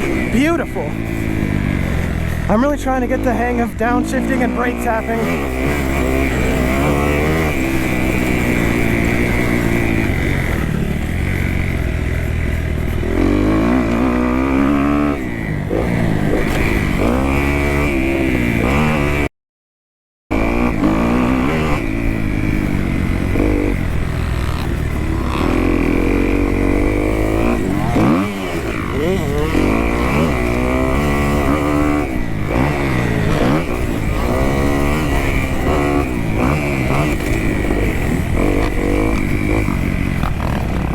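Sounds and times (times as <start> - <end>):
dirt bike engine revving: 0.0 - 19.3, 20.3 - 40.9.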